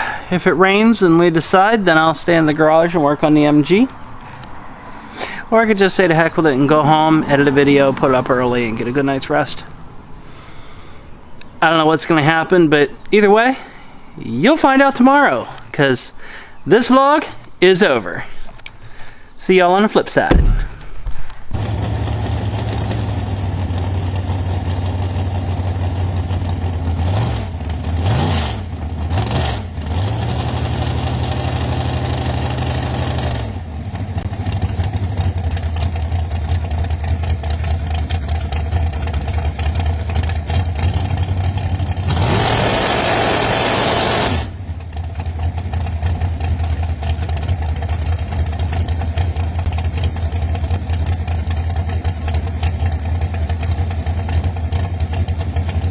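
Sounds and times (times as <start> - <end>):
car engine idling and revving: 0.6 - 11.6, 20.3 - 55.9.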